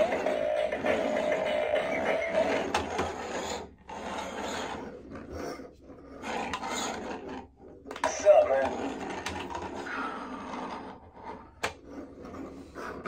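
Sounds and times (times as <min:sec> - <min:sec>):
toy car wheels rolling on wood: 0:00.0 - 0:13.0.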